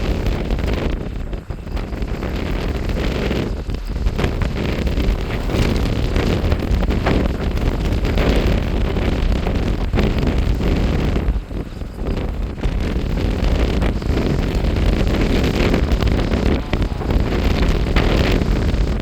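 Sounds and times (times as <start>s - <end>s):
gusting wind on microphone: 0.0s - 19.0s.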